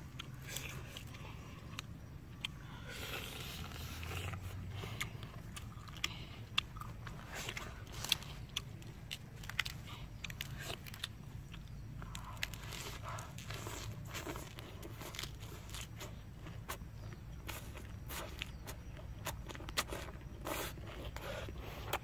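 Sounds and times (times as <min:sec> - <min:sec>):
boy crunching and chewing food: 0:00.0 - 0:22.0.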